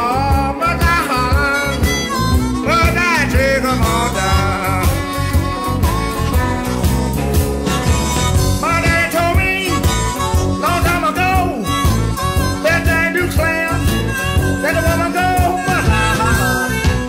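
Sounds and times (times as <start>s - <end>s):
blues music: 0.0s - 17.0s.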